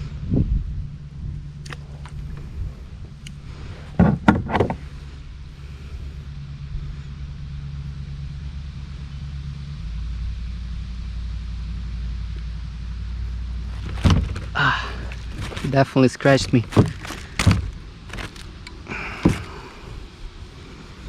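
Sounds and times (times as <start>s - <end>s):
engine hum: 0.0s - 21.0s.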